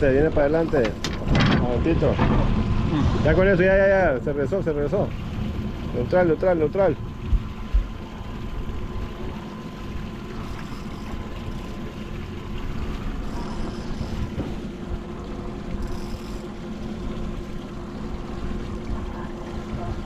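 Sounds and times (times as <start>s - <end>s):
outboard motors idling: 0.0s - 20.0s
water noise: 0.0s - 20.0s
wind: 0.0s - 20.0s.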